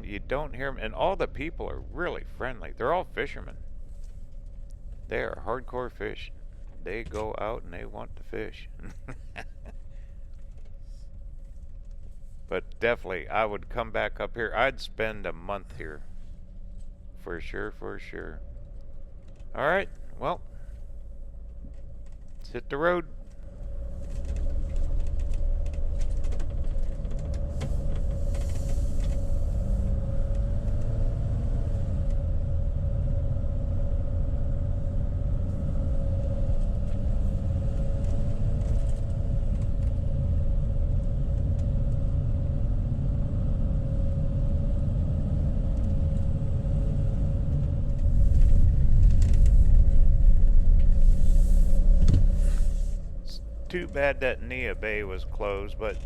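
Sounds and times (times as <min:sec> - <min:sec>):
car engine drone: 0:00.0 - 0:56.0
faint steady hum: 0:00.0 - 0:56.0
road rumble: 0:00.0 - 0:56.0.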